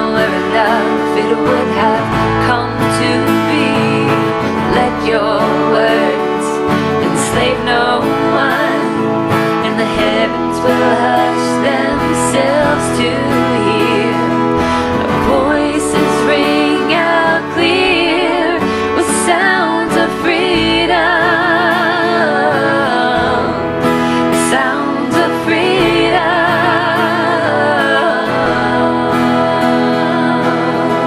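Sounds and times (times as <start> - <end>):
women singing worship song: 0.0 - 31.0.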